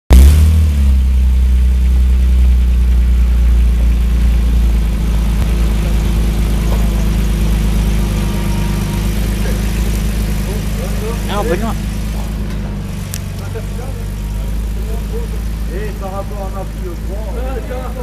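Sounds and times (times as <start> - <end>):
car engine idling: 0.1 - 18.0.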